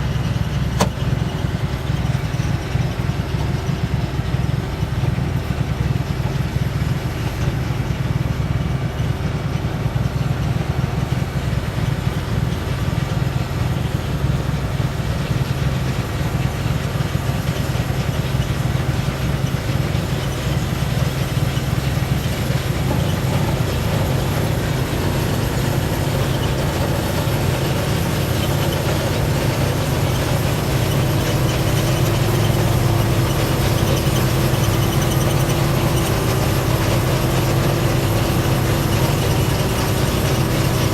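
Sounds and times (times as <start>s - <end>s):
farm machinery engine running: 0.0s - 40.9s.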